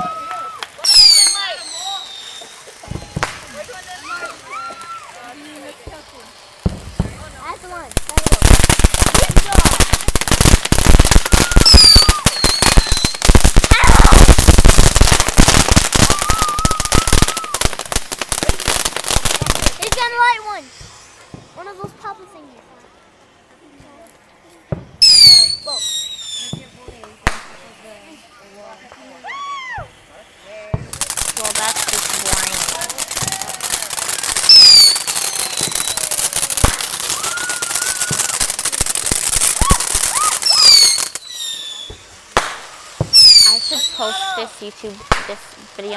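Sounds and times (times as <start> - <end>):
whistling fireworks: 0.0 - 24.0, 24.6 - 45.9
fireworks crackling: 0.0 - 45.9.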